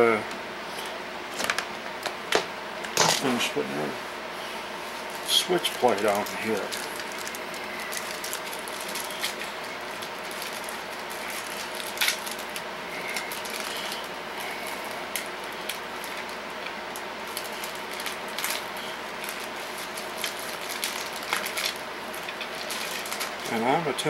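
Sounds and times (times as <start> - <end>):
steady background hiss: 2.0 - 24.0.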